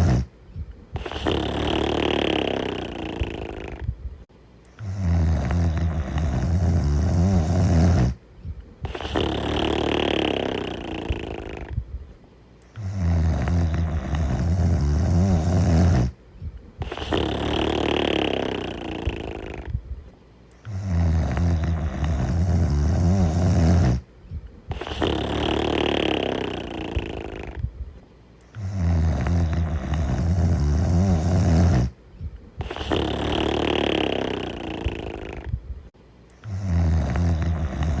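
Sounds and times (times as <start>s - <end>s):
cartoon dog snoring: 0.0s - 0.3s, 0.9s - 3.9s, 4.8s - 8.2s, 8.8s - 11.8s, 12.7s - 16.2s, 16.8s - 19.8s, 20.6s - 24.1s, 24.7s - 27.7s, 28.5s - 32.0s, 32.6s - 35.6s, 36.4s - 38.0s.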